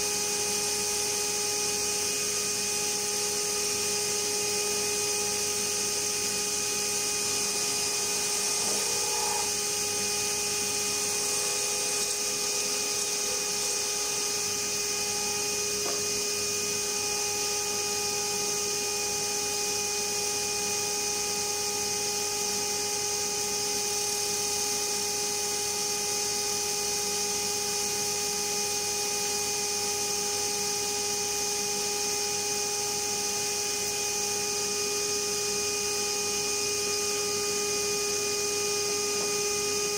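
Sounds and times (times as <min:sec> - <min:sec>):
wood lathe motor whine: 0:00.0 - 0:39.9.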